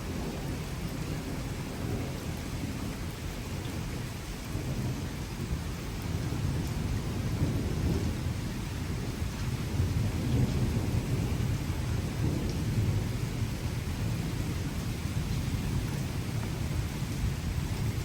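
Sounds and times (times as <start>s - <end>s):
steady rain: 0.0s - 18.0s
thunder rumbling: 0.0s - 18.0s.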